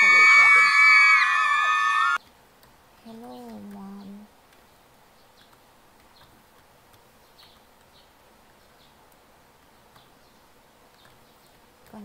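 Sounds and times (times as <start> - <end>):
faint steady hiss: 2.2 - 12.0.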